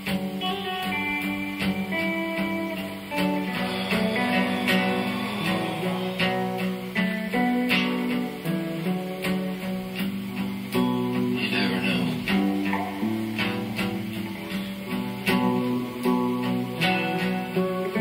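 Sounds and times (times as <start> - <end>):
held melody notes: 0.0 - 18.0
steady drum beat: 0.0 - 18.0
strummed guitar: 0.0 - 18.0.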